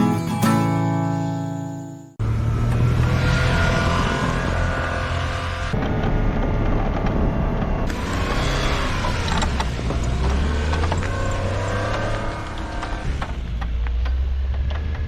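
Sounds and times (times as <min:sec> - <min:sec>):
vehicle engine running: 0:01.1 - 0:15.0.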